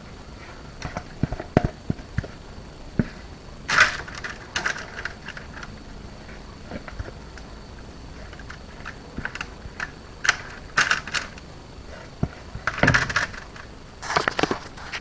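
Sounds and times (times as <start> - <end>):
scraping rustle: 0.0 - 15.0.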